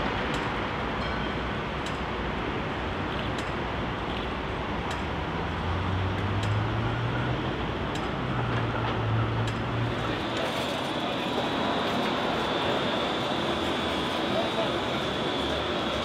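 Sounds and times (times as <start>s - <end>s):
street noise: 0.0s - 16.0s
tram motor hum: 0.0s - 16.0s.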